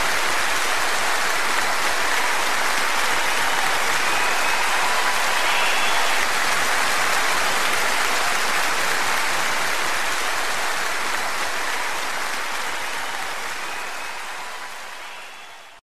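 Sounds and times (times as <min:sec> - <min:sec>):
group applause: 0:00.0 - 0:15.8.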